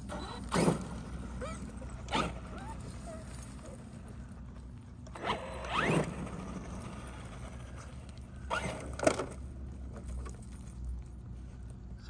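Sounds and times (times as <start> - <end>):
electric motor and gears whining: 0.0 - 11.2.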